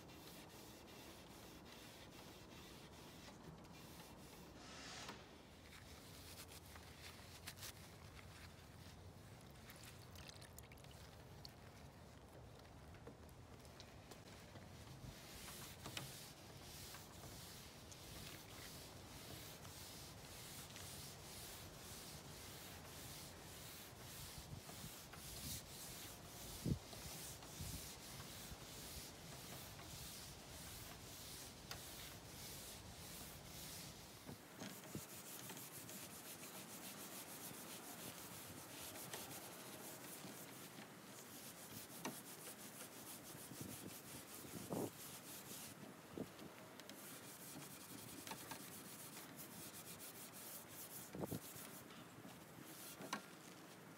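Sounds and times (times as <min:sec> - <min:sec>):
steel wool scrubbing wood: 0:00.0 - 0:08.5, 0:14.3 - 0:53.7.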